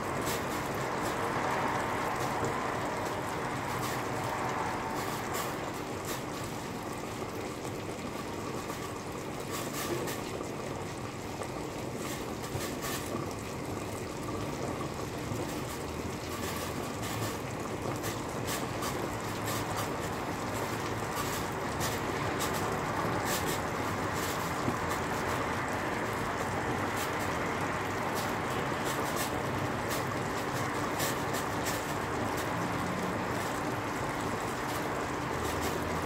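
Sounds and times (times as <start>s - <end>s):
sauce simmering in a frying pan: 0.0s - 36.0s.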